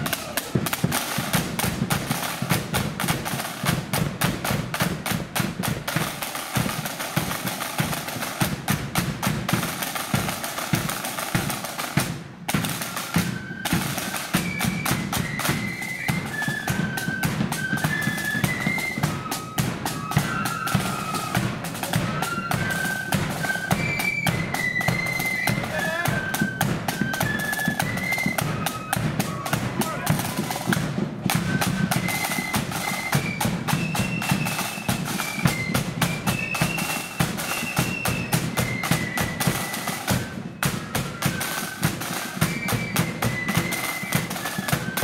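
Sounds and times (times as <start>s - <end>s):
flute melody: 0.0s - 45.0s
side drums and bass drum beat: 0.0s - 45.0s.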